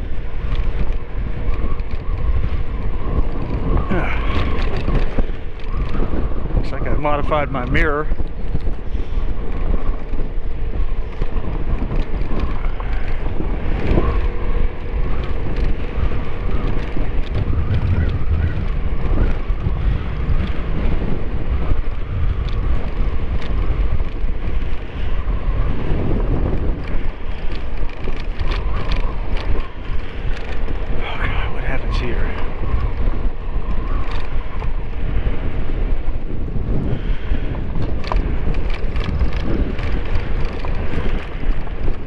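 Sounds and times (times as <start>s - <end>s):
road noise: 0.0s - 42.0s
wind rumble on microphone: 0.0s - 42.0s.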